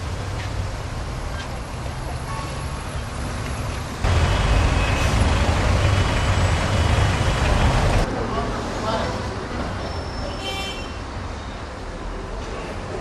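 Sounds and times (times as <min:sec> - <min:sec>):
motor vehicles rumbling: 0:00.0 - 0:13.0.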